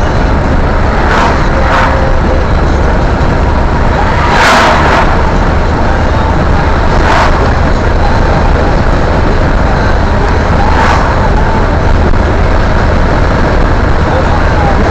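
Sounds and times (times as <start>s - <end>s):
road and engine noise in car: 0.0s - 14.9s
vehicles passing: 0.0s - 14.9s.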